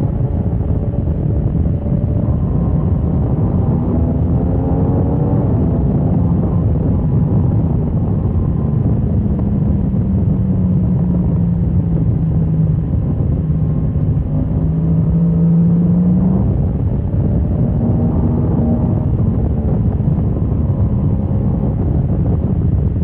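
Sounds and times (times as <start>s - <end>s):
motorcycle engine running hard: 0.0s - 23.0s
wind rush: 0.0s - 23.0s.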